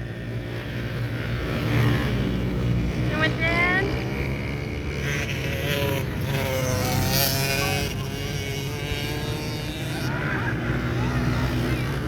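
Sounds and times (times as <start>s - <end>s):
pit bike engines revving: 0.0s - 12.0s.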